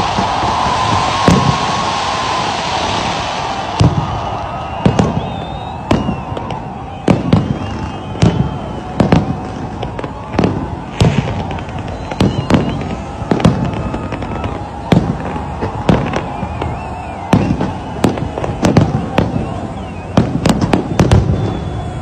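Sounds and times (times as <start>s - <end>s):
firework shells bursting: 0.0s - 21.8s
fireworks rumble: 0.0s - 22.0s
high firework whistles: 0.0s - 22.0s.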